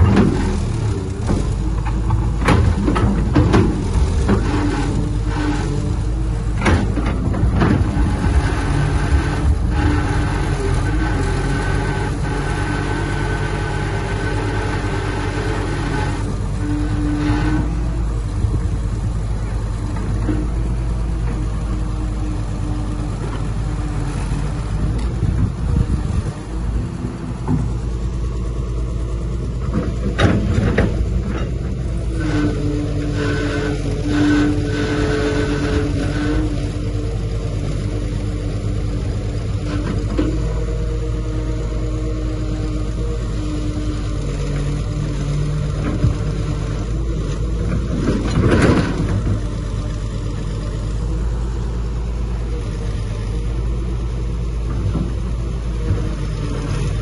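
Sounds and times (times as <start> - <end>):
diesel engine low rumble: 0.0 - 57.0.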